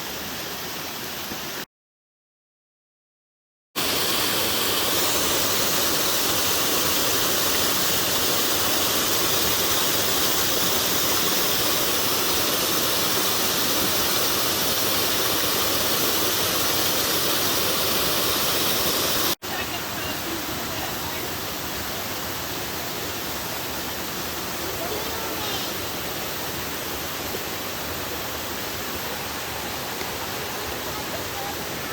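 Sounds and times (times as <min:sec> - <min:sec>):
fast-flowing creek water rushing: 0:03.8 - 0:31.9.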